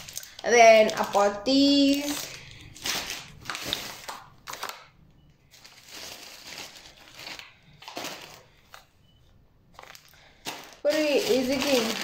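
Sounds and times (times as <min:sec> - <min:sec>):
plastic packaging crinkling: 0:00.0 - 0:04.9, 0:05.5 - 0:08.9, 0:09.7 - 0:12.0.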